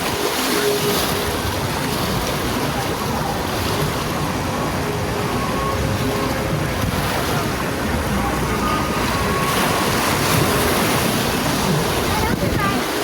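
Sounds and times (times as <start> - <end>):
water rushing: 0.0 - 13.0
wind buffeting microphone: 0.0 - 13.0.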